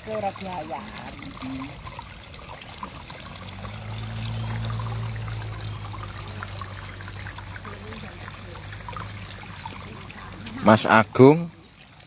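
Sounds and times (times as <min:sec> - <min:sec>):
water trickling: 0:00.0 - 0:12.0
low motor hum: 0:00.8 - 0:11.7.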